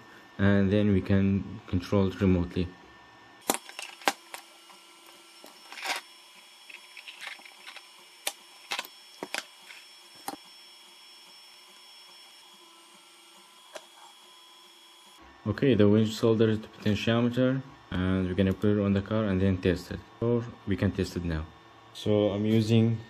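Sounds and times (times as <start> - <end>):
faint printer hum: 0.0 - 23.0.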